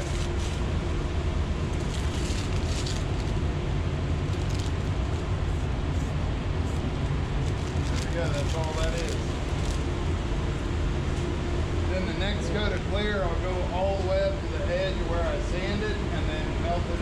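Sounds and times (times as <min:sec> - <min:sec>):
low machine rumble: 0:00.0 - 0:17.0.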